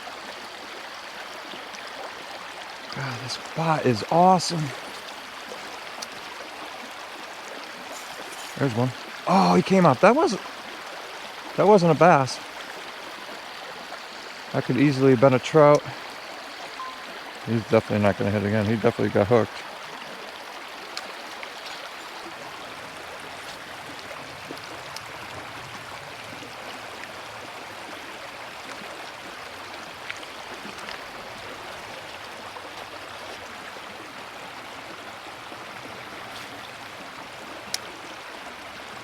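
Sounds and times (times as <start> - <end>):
creek water rushing over rocks: 0.0 - 39.0.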